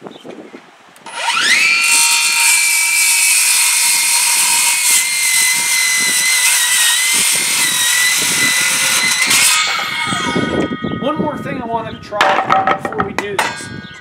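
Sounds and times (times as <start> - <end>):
circular saw cutting lumber: 1.0 - 11.2, 12.5 - 14.0.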